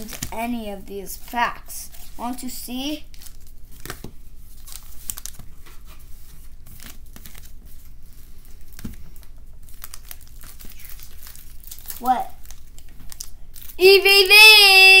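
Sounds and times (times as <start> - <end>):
foil wrapper tearing and crinkling: 0.0 - 0.5, 3.1 - 14.8.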